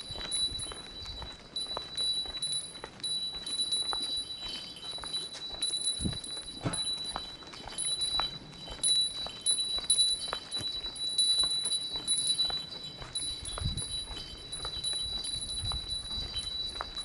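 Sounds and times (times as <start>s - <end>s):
small metal bell ringing: 0.0s - 17.0s.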